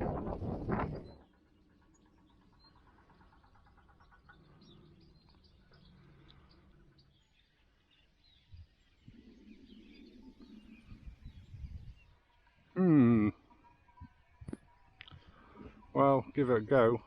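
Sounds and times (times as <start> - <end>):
faint bird chirps: 0.9 - 17.0.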